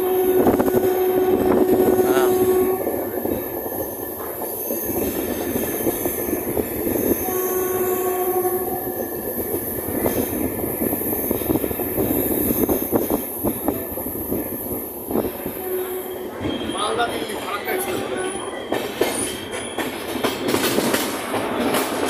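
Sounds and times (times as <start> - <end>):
train wheels rumbling and rattling: 0.0 - 22.0.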